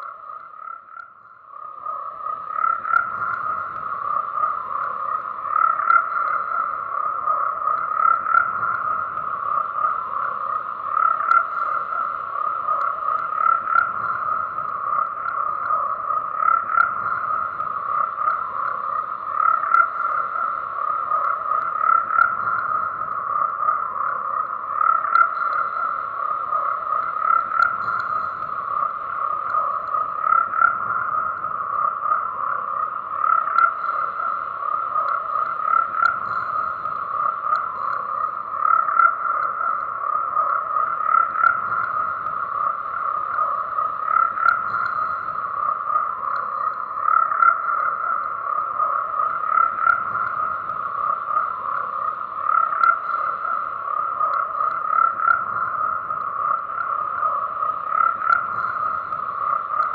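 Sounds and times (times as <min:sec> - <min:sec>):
frogs croaking in chorus: 0:00.0 - 0:59.9.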